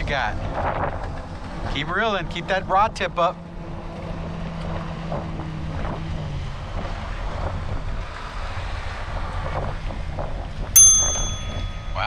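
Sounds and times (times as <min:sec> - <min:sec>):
wind rumbling on microphone: 0:00.0 - 0:02.9, 0:03.7 - 0:10.8.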